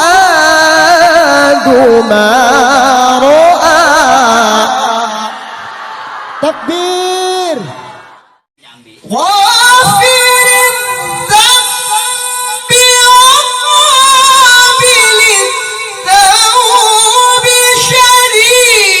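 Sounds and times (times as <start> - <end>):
man's melodic recitation: 0.0 - 5.3, 8.6 - 19.0.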